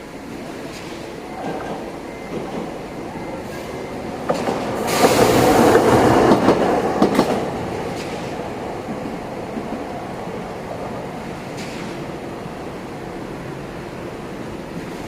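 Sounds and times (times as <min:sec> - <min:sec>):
tram passing: 0:00.0 - 0:15.0.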